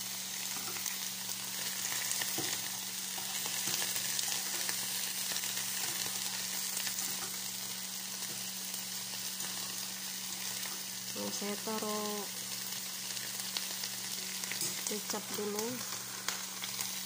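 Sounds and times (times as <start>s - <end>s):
greens sizzling in a frying pan: 0.0s - 17.0s.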